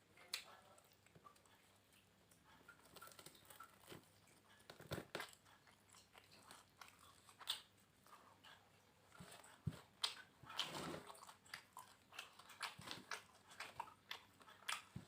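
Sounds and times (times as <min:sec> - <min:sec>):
person chewing and crunching food: 0:00.2 - 0:15.0.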